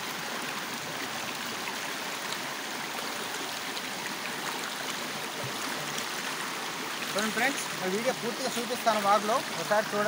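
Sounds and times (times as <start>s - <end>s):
stream flowing over stones: 0.0s - 10.0s.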